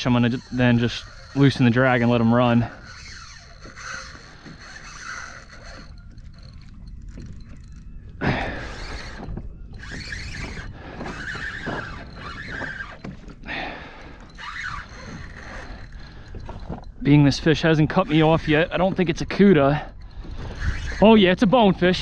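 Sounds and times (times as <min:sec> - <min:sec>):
fishing reel drag whining: 0:00.0 - 0:22.0.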